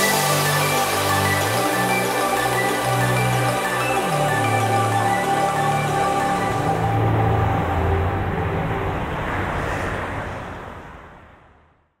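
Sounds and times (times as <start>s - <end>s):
steady wash of noise: 0.0s - 11.9s.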